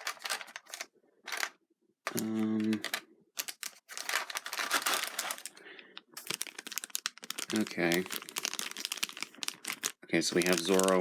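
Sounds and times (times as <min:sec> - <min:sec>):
plastic packaging clicking and rustling: 0:00.0 - 0:11.0.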